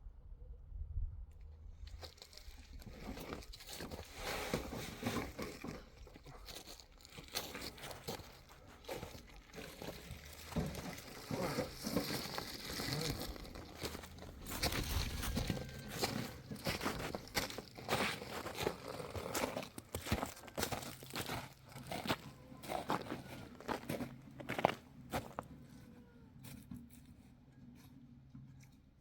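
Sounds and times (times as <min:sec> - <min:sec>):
crinkling and crunching: 0:01.8 - 0:27.1
small scrapes and knocks: 0:01.9 - 0:25.6.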